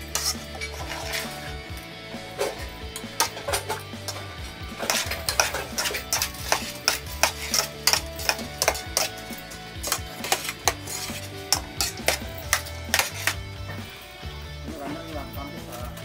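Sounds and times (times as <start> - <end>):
rice mixed in metal bowl: 0.0 - 14.0
background music with steady beat: 0.0 - 16.0.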